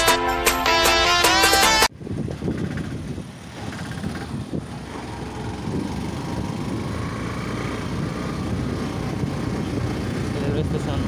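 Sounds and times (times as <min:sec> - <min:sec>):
motorcycle engine running: 0:01.9 - 0:11.0
wind rumble on microphone: 0:01.9 - 0:11.0.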